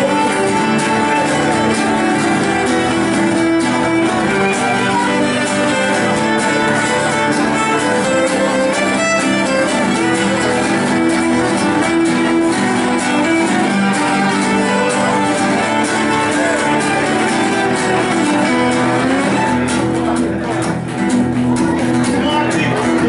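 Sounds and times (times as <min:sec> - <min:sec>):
fiddle bowing melody: 0:00.0 - 0:20.6
acoustic guitars playing: 0:00.0 - 0:23.0.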